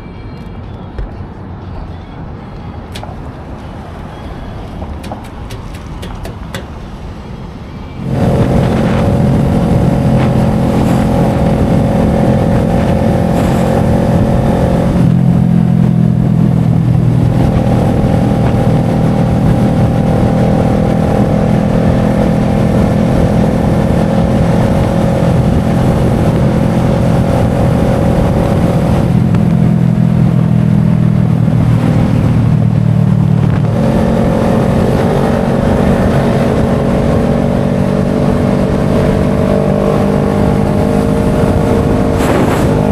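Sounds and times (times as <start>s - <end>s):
motorbike engine running: 8.0s - 42.9s.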